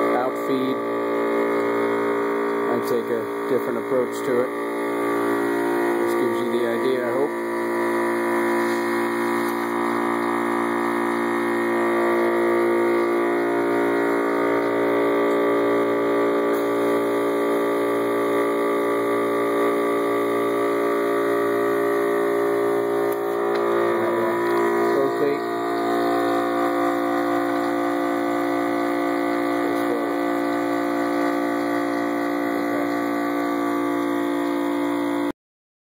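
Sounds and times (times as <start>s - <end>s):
vacuum pump humming: 0.0s - 35.3s.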